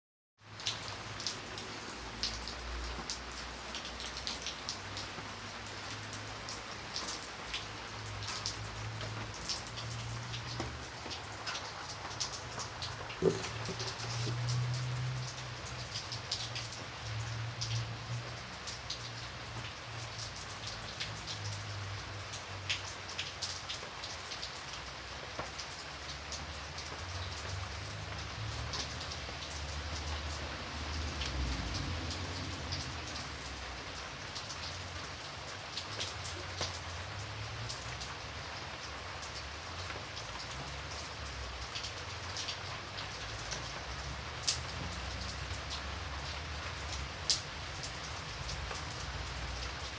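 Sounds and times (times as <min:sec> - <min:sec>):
rain falling: 0:00.4 - 0:49.9.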